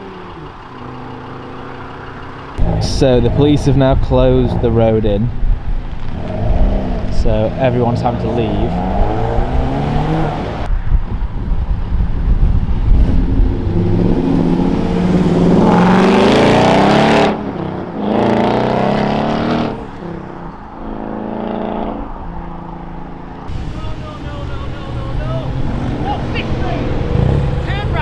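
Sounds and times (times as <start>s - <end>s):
car engines revving and driving off: 0.0s - 28.0s.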